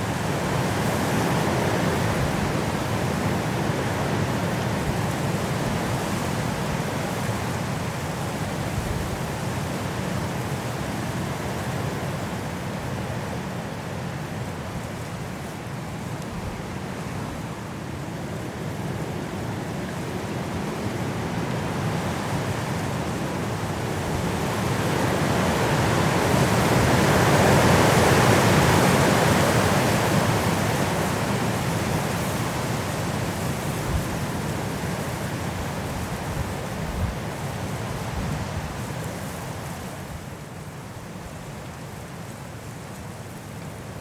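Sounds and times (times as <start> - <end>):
high wind through trees: 0.0 - 44.0.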